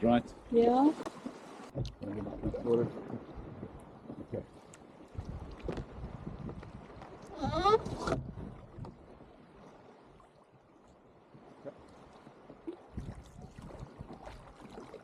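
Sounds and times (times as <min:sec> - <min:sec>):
water lapping and splashing: 0:00.0 - 0:15.0.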